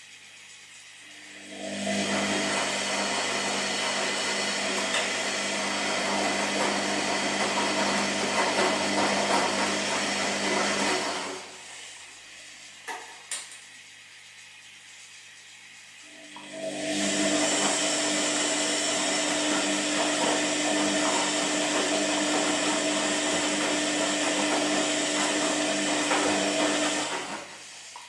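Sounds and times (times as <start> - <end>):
washing machine running: 0.0 - 28.0.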